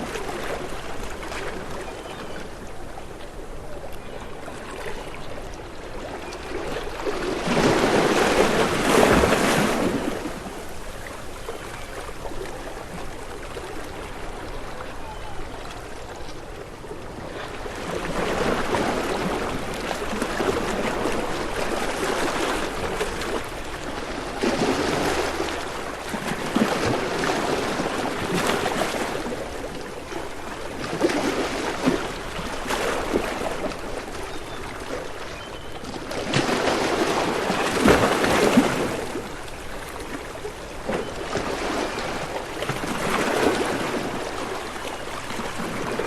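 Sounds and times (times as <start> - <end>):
ocean waves washing ashore: 0.0 - 46.0.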